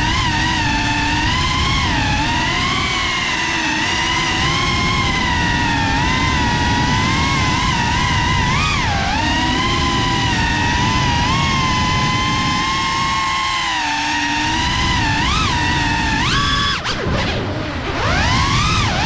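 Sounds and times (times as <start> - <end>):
drone motors whining: 0.0 - 19.0
prop-wash and wind noise: 0.0 - 19.0.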